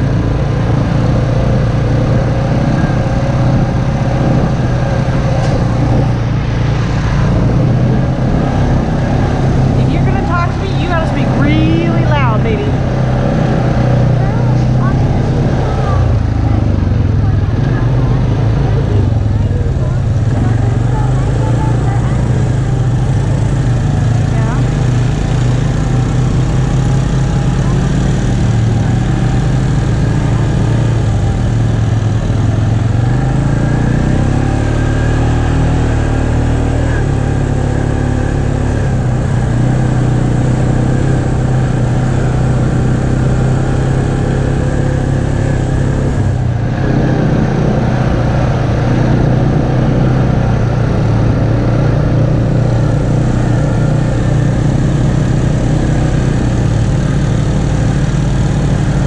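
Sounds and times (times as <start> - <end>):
atv engine running: 0.0 - 59.0
wind and tyre noise: 0.0 - 59.0.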